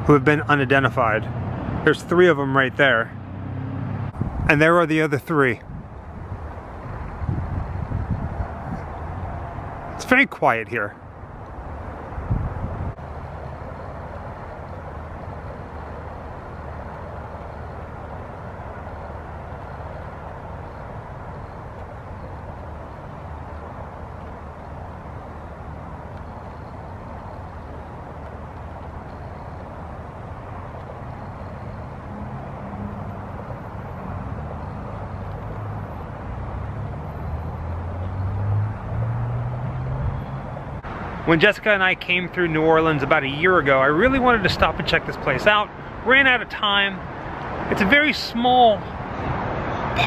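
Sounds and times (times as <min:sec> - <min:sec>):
traffic hum: 0:00.0 - 0:50.0
vehicle engine rumble: 0:00.0 - 0:50.0.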